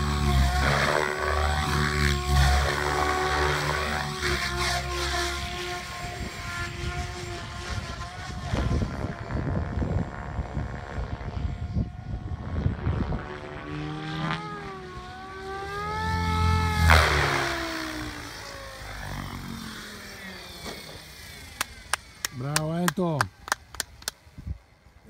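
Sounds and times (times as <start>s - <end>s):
model helicopter rotor whine: 0.0s - 25.0s.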